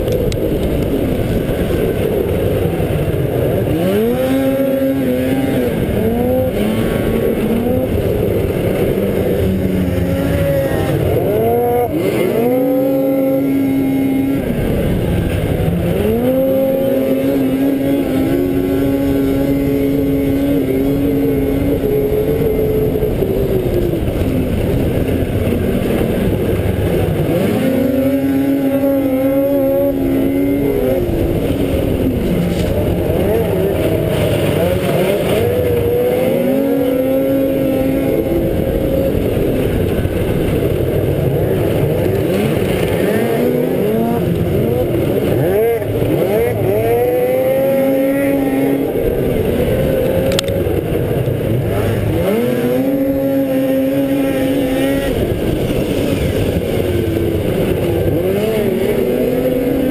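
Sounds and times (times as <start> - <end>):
snowmobile engine at high revs: 0.0 - 59.9
wind rush over microphone: 0.0 - 59.9.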